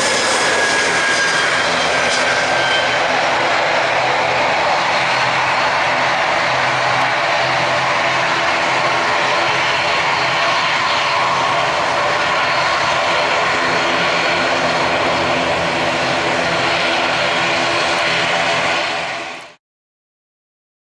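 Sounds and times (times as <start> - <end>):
jet engines roaring: 0.0 - 19.6
steady engine tones: 0.0 - 19.6.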